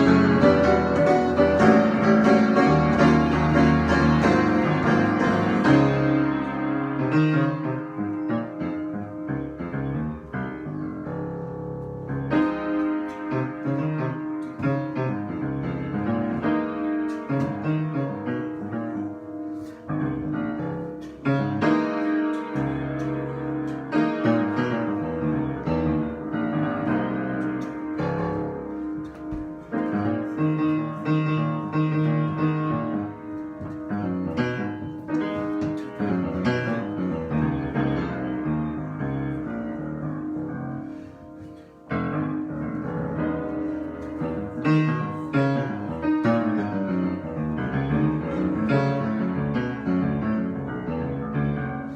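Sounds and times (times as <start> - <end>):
piano playing chords and melody: 0.0 - 51.9.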